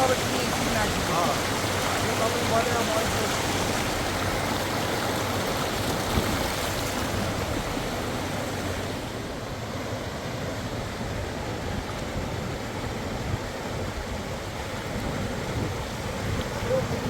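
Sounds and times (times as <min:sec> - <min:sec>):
cascading water rushing: 0:00.0 - 0:17.0.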